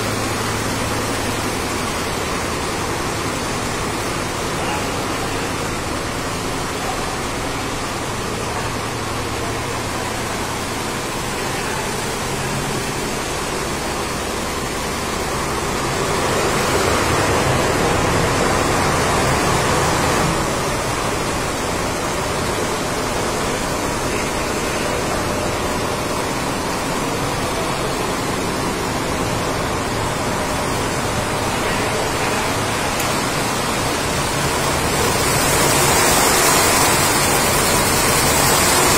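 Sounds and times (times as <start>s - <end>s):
embroidery machines running: 0.0s - 38.9s.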